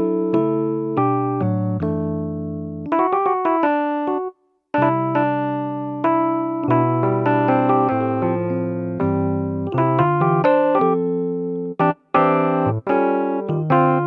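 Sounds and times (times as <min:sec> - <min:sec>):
electric piano chords: 0:00.0 - 0:14.0.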